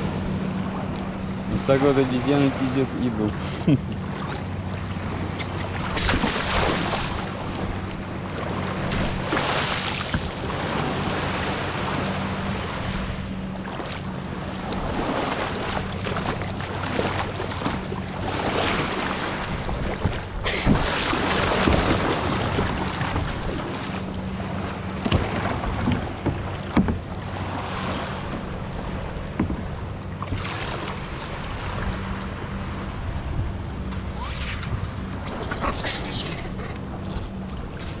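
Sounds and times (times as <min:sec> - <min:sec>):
small waves lapping: 0:00.0 - 0:38.0.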